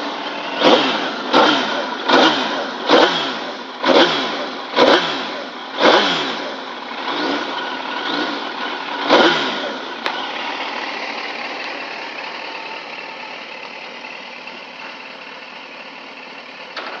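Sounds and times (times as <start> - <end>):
motorcycle engine revving and idling: 0.0 - 17.0.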